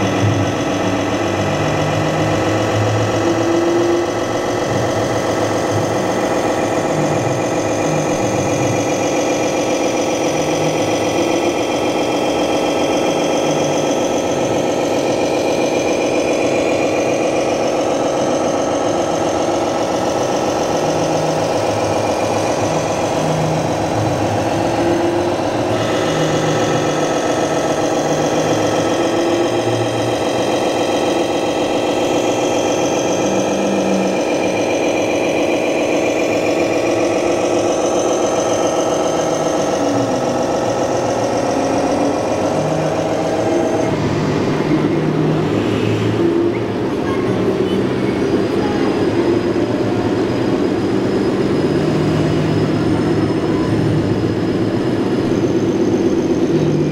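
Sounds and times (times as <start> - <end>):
diesel engine idling through speaker: 0.0 - 56.9.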